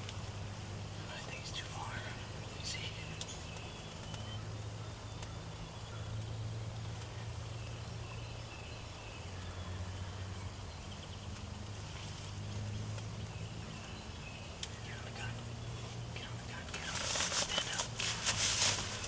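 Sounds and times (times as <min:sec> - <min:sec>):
distant bird calls: 0:00.0 - 0:19.0
steady low hum: 0:00.0 - 0:19.0.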